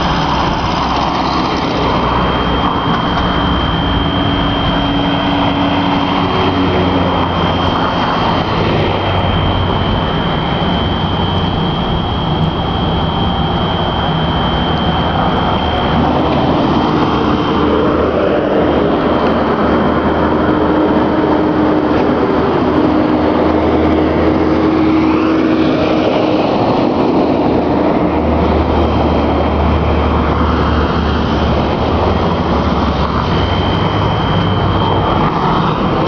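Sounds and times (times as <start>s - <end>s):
fire alarm steady high tone: 0.0s - 36.0s
traffic passing: 0.0s - 36.0s.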